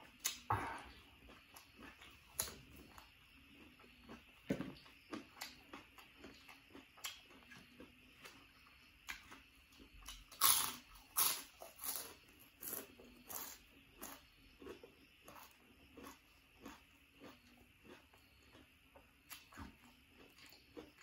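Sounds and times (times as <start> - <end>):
crunching raw vegetables: 0.0 - 21.0.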